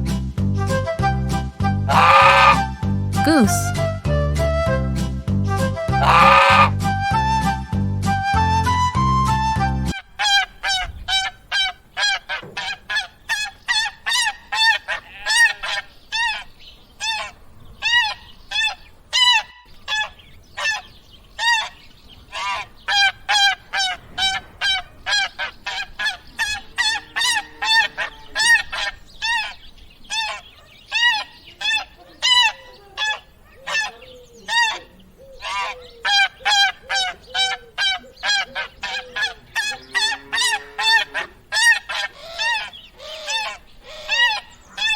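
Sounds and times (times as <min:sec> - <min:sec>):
geese honking: 0:01.9 - 0:03.9, 0:05.8 - 0:07.2, 0:09.9 - 0:44.9.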